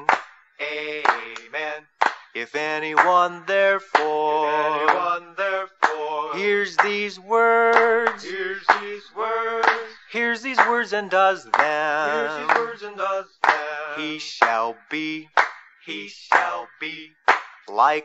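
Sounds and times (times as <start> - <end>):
men and women singing: 0.0 - 15.2.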